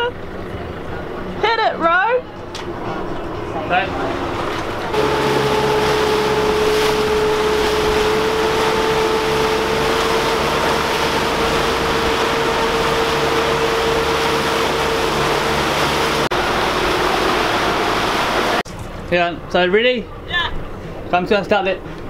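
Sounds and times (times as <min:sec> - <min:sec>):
water rushing: 0:00.0 - 0:19.2
boat engines whining: 0:00.0 - 0:22.0
wind: 0:00.0 - 0:22.0.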